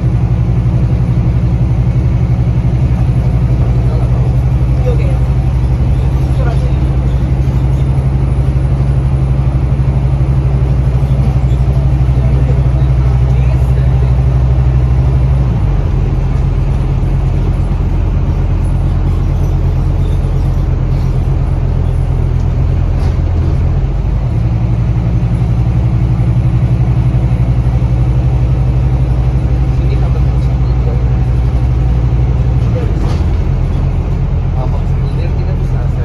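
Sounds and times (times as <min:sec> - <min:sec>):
bus diesel engine humming: 0:00.0 - 0:36.0.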